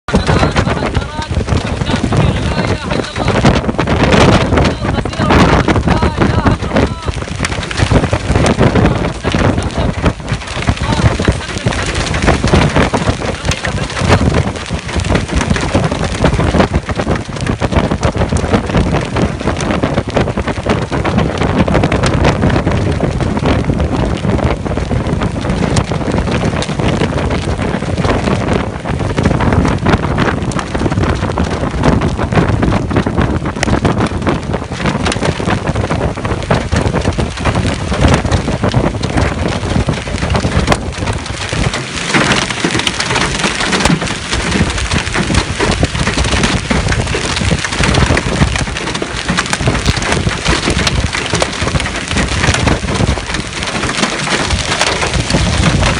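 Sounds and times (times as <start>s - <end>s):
hailstones clattering on hard surfaces: 0.1s - 55.9s.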